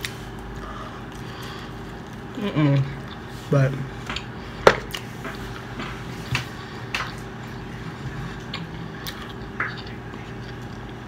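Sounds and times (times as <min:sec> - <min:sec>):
person chewing food: 0:00.0 - 0:03.4, 0:04.0 - 0:11.0
low steady hum: 0:00.0 - 0:11.0.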